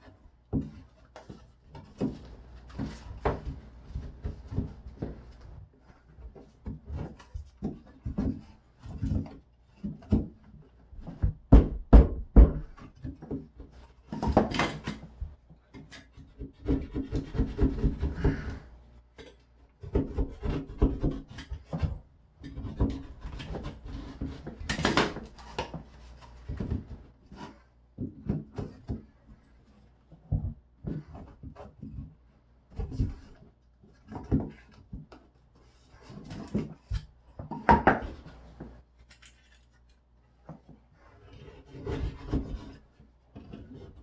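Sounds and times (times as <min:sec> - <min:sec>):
scraping and rubbing on drywall: 0:00.0 - 0:11.4, 0:12.6 - 0:44.0.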